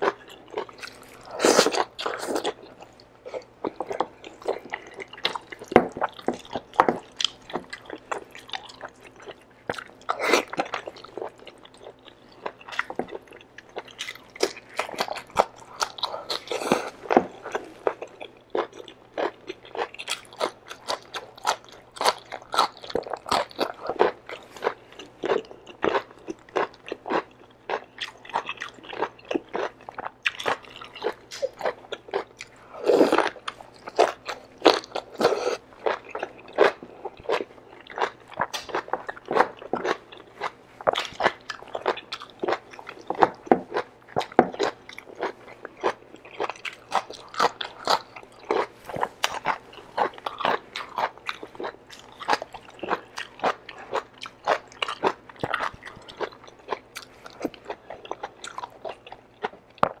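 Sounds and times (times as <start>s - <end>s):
person chewing crunchy food: 0.0s - 60.0s.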